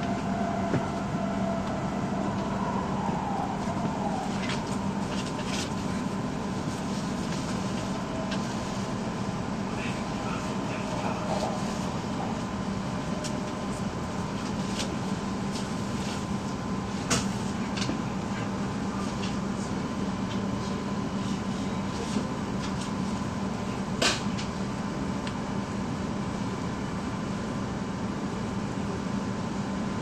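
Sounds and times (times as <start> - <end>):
train running rumble: 0.0 - 27.6.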